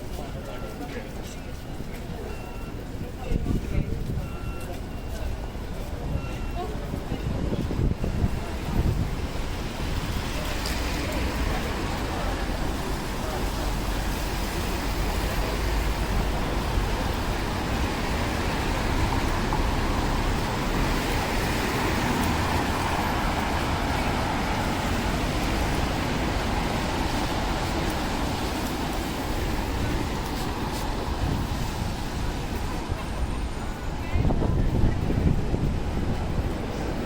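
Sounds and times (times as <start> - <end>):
traffic rumble on wet roads: 0.0 - 37.0.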